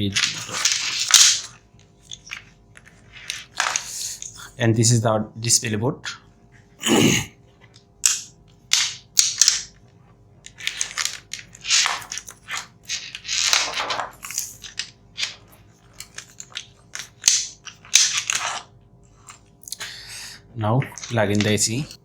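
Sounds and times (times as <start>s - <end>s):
clicks snaps and rustles: 0.0s - 4.5s, 7.6s - 19.8s, 20.8s - 22.0s.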